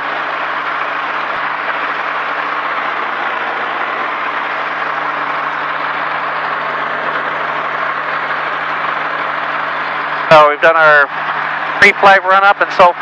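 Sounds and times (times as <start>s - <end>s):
aircraft engine and propeller running: 0.0s - 13.0s.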